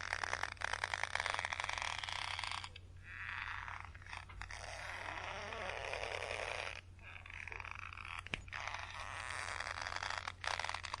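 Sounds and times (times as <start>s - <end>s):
rope creaking under tension: 0.0s - 11.0s.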